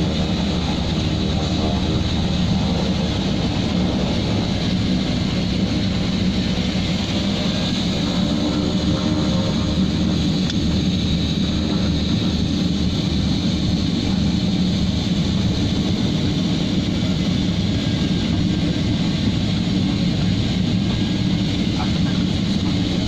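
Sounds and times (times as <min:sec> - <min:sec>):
turboprop engines droning: 0:00.0 - 0:23.0.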